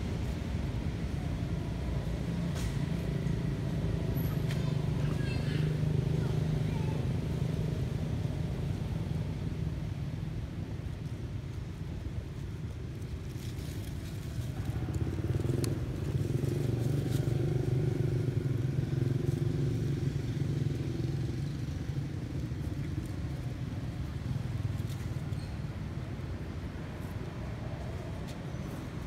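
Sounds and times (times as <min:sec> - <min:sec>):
vehicle engine hum: 0:00.0 - 0:29.0.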